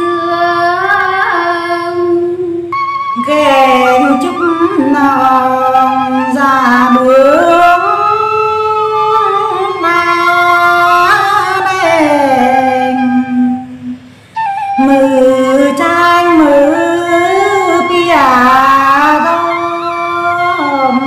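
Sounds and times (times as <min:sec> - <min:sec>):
woman singing folk song: 0:00.0 - 0:13.8, 0:14.8 - 0:21.0.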